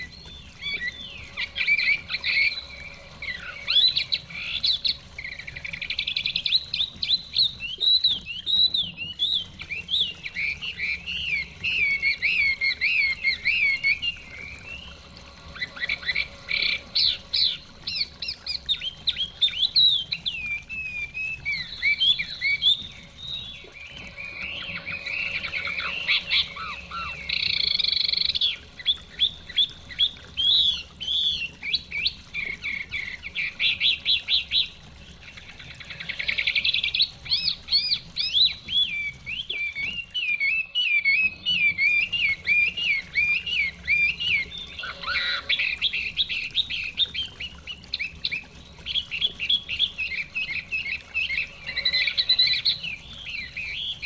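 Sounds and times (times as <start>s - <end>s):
bird singing whistled phrases: 0.0s - 32.2s, 37.3s - 54.0s
faint stream water rushing: 0.0s - 54.0s.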